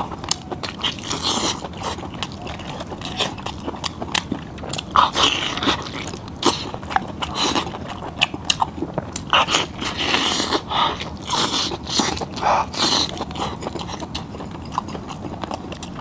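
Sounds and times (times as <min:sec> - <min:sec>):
person chewing and smacking: 0:00.0 - 0:16.0.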